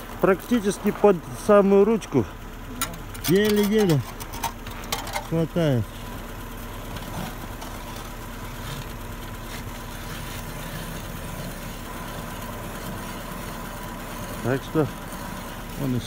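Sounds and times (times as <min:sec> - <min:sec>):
faint constant hum: 0:00.0 - 0:16.0.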